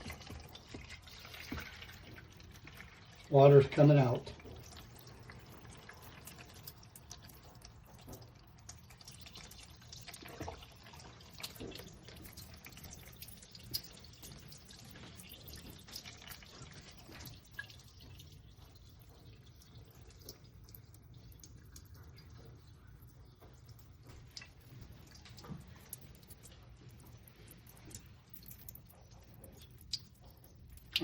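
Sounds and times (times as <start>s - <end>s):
water dripping and trickling: 0.0s - 31.0s.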